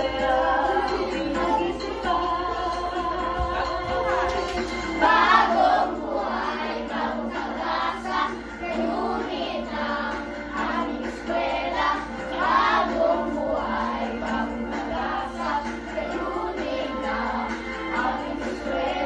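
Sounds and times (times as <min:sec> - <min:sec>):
backing music: 0:00.0 - 0:19.0
group of voices singing: 0:00.0 - 0:19.0.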